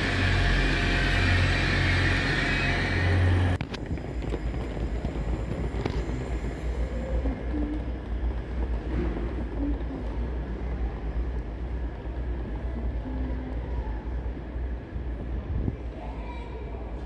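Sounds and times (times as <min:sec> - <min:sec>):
diesel train engine hum: 0:00.0 - 0:17.0.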